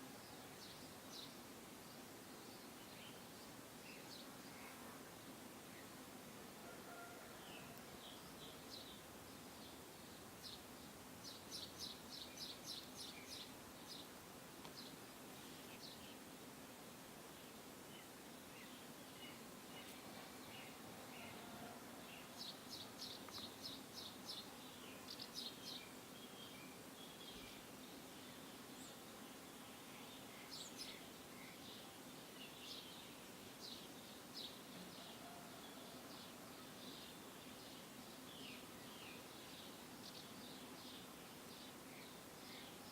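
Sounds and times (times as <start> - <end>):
faint outdoor background hiss: 0.0 - 42.9.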